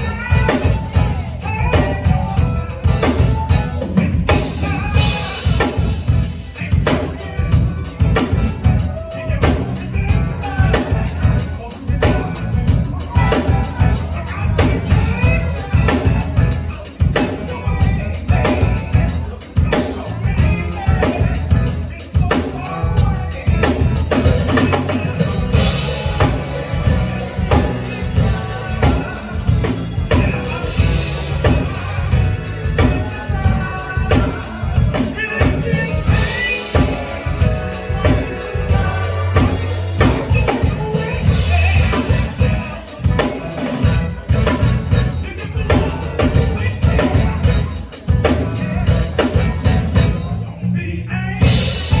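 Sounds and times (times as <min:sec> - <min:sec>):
drum kit beat: 0:00.0 - 0:50.5, 0:51.3 - 0:52.0
heavy bass line: 0:00.0 - 0:52.0.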